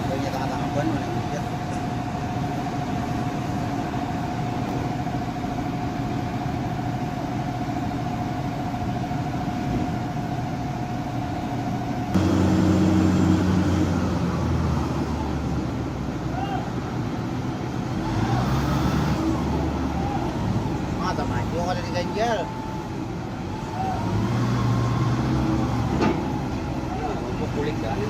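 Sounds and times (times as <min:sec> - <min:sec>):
constant high whine: 0:00.0 - 0:28.0
heavy vehicle engine running: 0:00.0 - 0:28.0.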